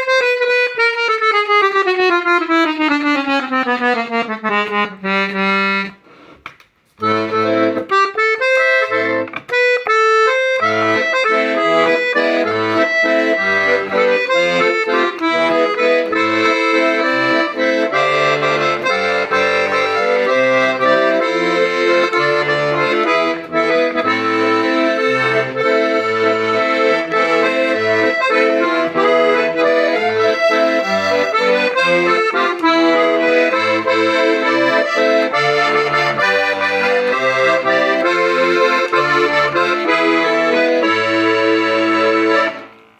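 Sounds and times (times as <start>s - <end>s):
accordion playing melody: 0.0s - 42.9s.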